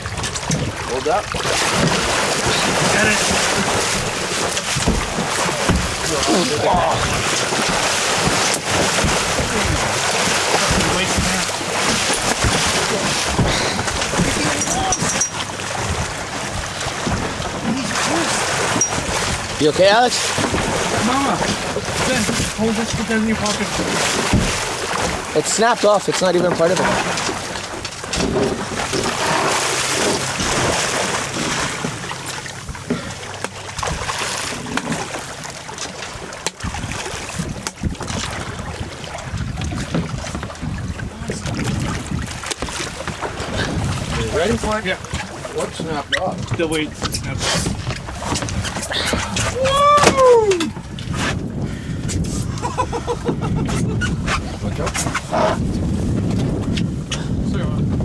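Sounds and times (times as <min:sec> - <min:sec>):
wind buffeting microphone: 0:00.0 - 0:35.1, 0:36.2 - 0:58.0
boat noise: 0:00.0 - 0:58.0
knocks and thumps on boat: 0:00.0 - 0:58.0
water: 0:00.0 - 0:58.0.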